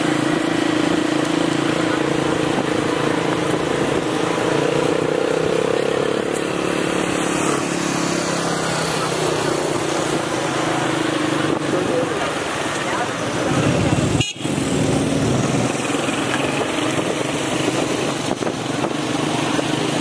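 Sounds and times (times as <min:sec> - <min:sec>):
road and wind noise: 0:00.0 - 0:20.0
vehicle engine hum: 0:00.0 - 0:20.0.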